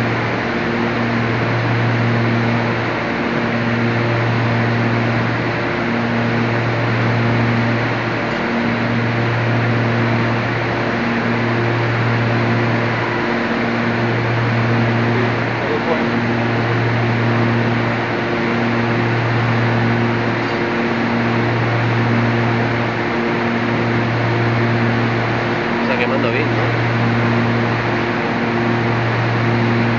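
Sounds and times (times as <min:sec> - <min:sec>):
dryer machinery rushing noise: 0:00.0 - 0:29.9
low machine hum: 0:00.0 - 0:29.9.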